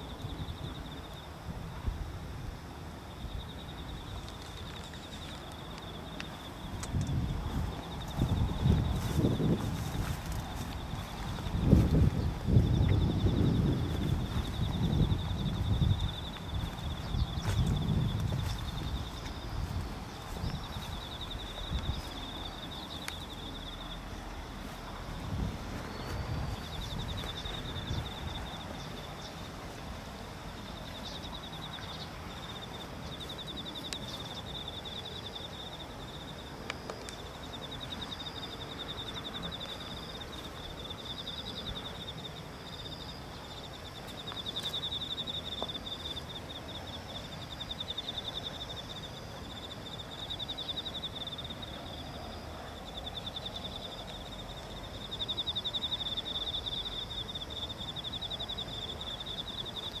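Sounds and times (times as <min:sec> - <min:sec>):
crickets chirping: 0:00.0 - 1:00.0.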